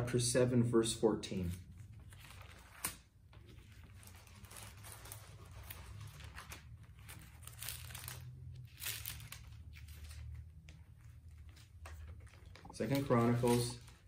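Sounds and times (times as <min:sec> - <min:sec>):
thin paper pages rustling: 0:01.9 - 0:14.0.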